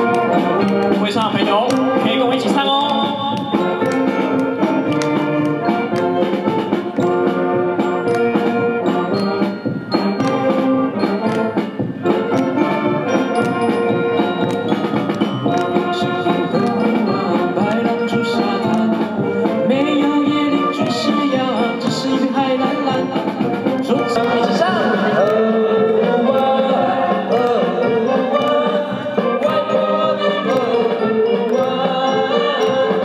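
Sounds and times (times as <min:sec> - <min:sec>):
brass melody over steady beat: 0:00.0 - 0:33.0.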